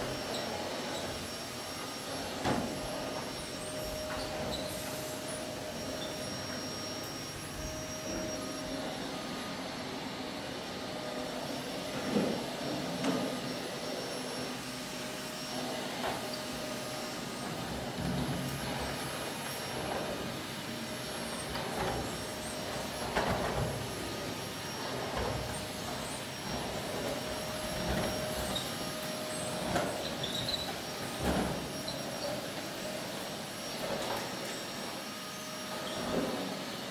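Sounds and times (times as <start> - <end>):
vacuum cleaner running: 0.0 - 36.9.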